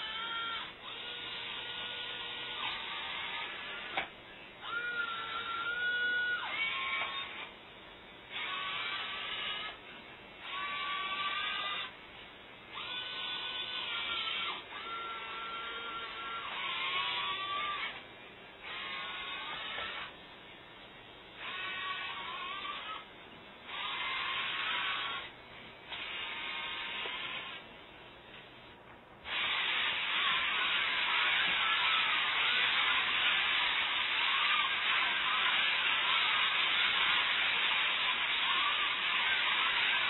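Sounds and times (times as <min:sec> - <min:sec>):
servo motors whirring: 0:00.0 - 0:07.5, 0:08.3 - 0:09.8, 0:10.4 - 0:11.9, 0:12.7 - 0:18.0, 0:18.6 - 0:20.2, 0:21.4 - 0:23.1, 0:23.7 - 0:27.7, 0:29.3 - 0:40.0.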